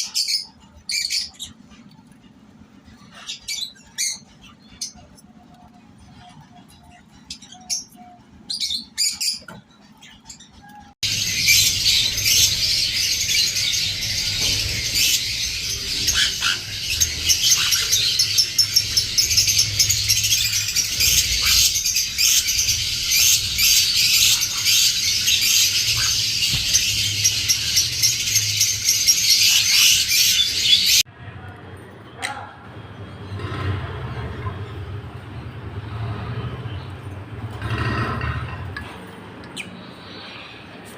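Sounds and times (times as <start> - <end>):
lovebirds chirping and chattering: 0.0 - 31.1, 32.1 - 40.9.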